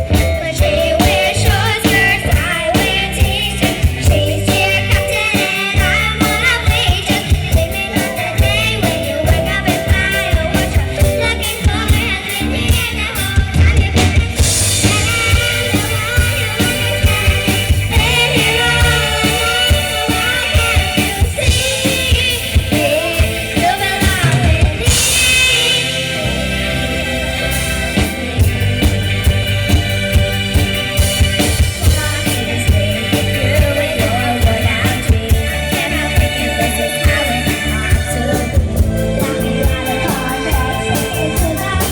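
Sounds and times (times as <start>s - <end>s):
bass: 0.0s - 41.9s
drums: 0.0s - 41.9s
electric guitar: 0.0s - 41.9s
keyboard: 0.0s - 41.9s
person singing: 0.0s - 41.9s.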